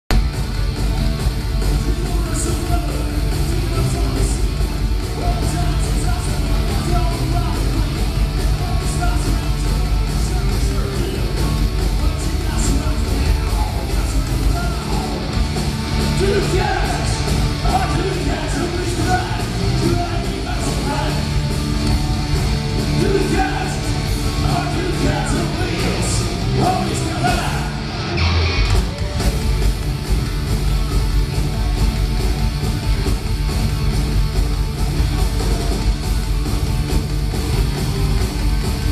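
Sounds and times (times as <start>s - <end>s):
bass guitar: 0.0s - 38.9s
drums: 0.0s - 38.9s
distorted electric guitars: 0.1s - 38.9s
heavy metal band playing: 0.1s - 38.9s.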